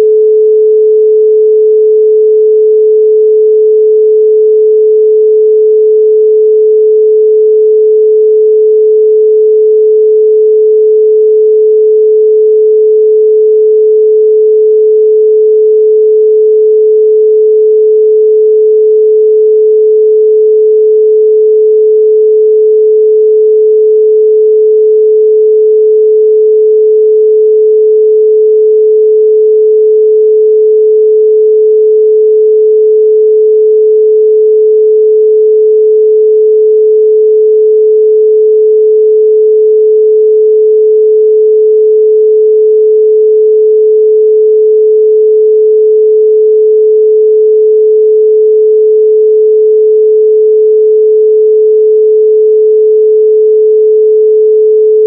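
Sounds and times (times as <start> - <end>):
loud pure sine tone: 0.0 - 55.0.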